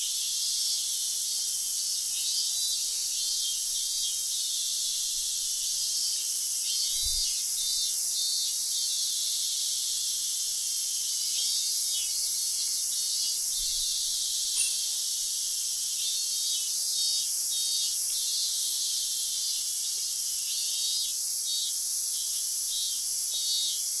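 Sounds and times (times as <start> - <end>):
crickets shrilling: 0.0 - 24.0
pulsed insect chirping: 0.0 - 24.0.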